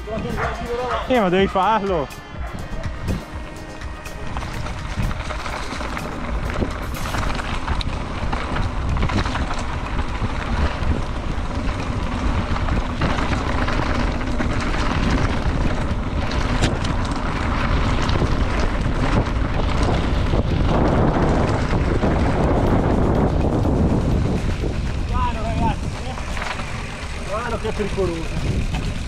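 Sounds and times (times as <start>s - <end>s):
bike tyre noise on dirt: 0.0s - 29.0s
wind rushing over microphone: 0.0s - 29.0s
bike knocks and rattles: 2.4s - 29.0s.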